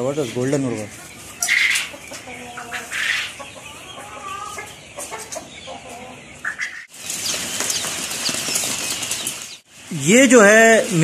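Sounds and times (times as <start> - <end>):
hens clucking: 0.0 - 9.6
chicks peeping: 0.0 - 11.0.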